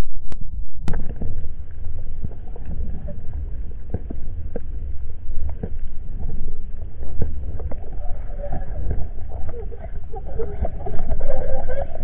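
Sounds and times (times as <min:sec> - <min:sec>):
underwater rumble: 0:00.0 - 0:12.0.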